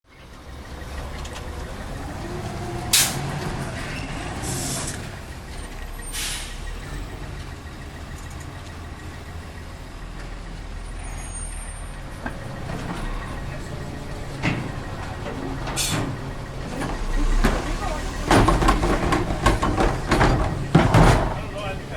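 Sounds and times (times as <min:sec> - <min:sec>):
garbage truck engine running: 0:00.1 - 0:21.9.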